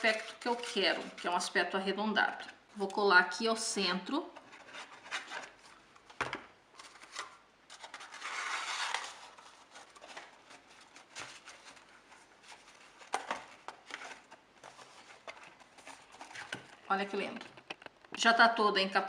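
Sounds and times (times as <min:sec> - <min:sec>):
paper and cardboard rustling: 0:00.0 - 0:01.6, 0:04.3 - 0:18.1.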